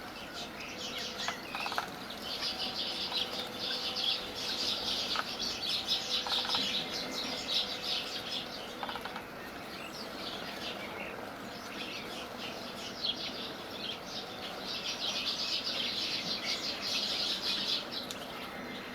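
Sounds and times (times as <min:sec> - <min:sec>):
flock of small birds chirping: 0:00.0 - 0:18.9.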